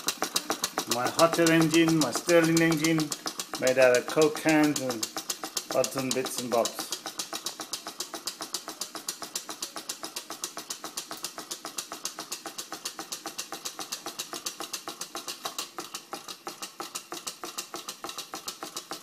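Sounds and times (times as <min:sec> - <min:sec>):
small engine fast ticking: 0:00.0 - 0:19.0.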